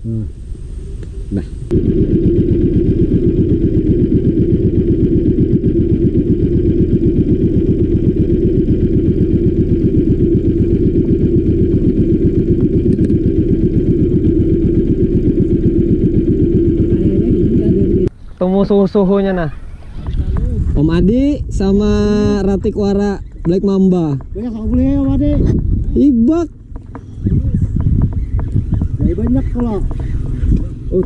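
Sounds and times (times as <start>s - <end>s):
small boat engine running: 0.0s - 31.0s.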